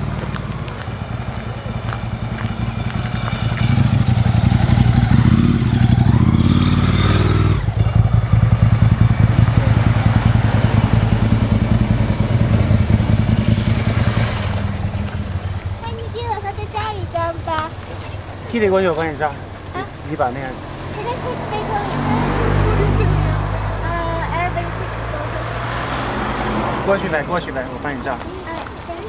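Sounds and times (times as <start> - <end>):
car engine low rumble: 0.0 - 29.0.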